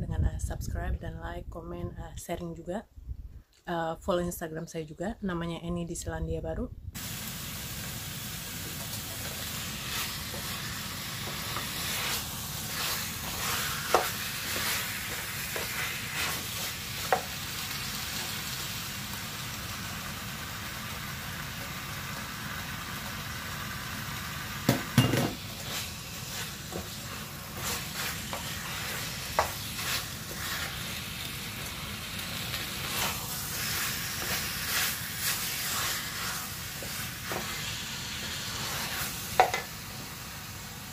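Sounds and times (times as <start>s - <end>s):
meat sizzling in a pan: 7.0s - 40.9s.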